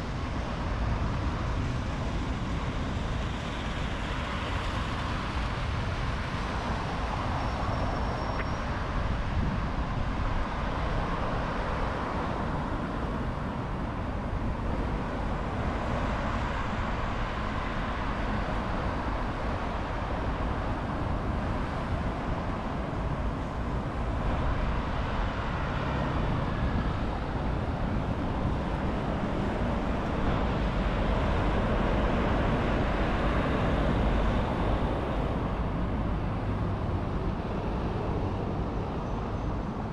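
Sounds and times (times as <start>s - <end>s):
low traffic rumble: 0.0s - 39.9s
passing vehicles: 0.0s - 39.9s.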